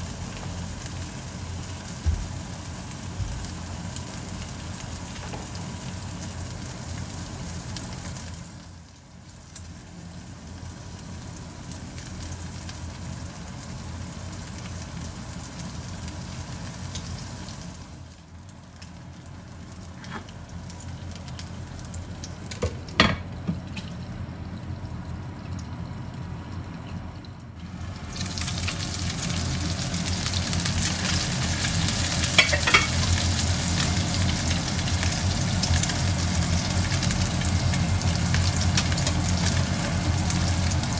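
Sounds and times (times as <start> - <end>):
batter and meat sizzling in oil: 0.0 - 40.9.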